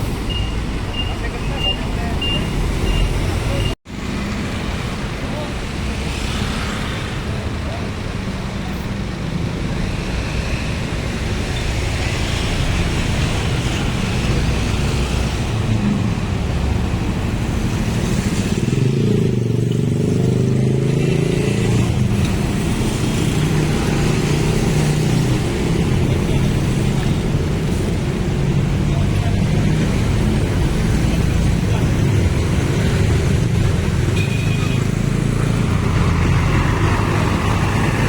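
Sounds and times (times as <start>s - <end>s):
road traffic: 0.0s - 38.0s.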